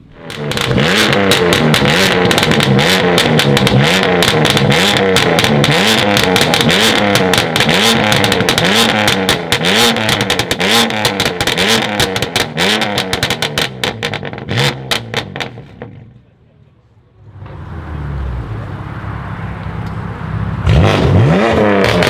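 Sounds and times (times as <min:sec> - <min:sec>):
sports car engine revving: 0:00.0 - 0:16.2, 0:17.2 - 0:22.0
exhaust crackling and popping: 0:00.0 - 0:16.3, 0:20.6 - 0:22.0.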